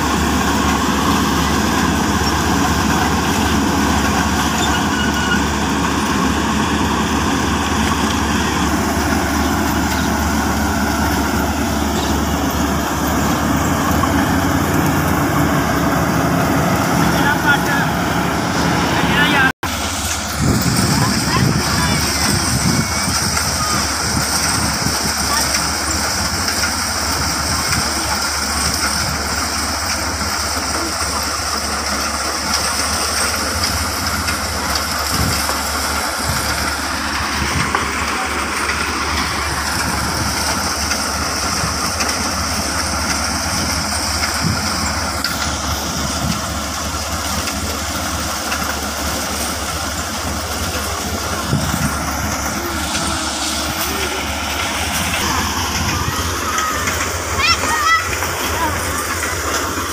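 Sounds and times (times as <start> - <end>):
combine harvester engine rumbling: 0.0 - 59.9
threshing machinery whine: 0.0 - 59.9.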